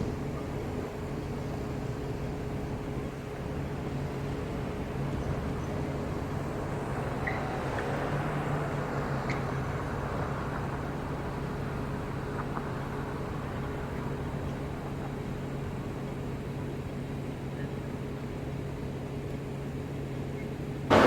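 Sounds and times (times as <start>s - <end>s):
traffic engine hum: 0.0s - 21.0s.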